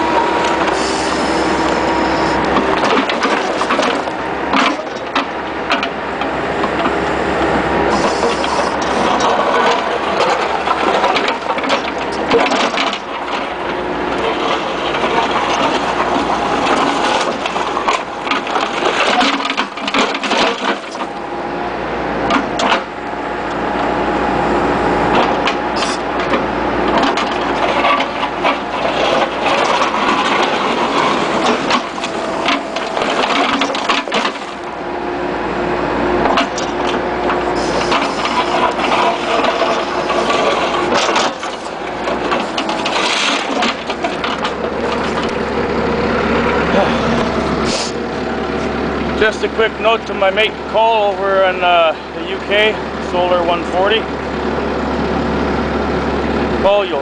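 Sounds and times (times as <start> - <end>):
engine and hydraulics running: 0.0 - 57.0.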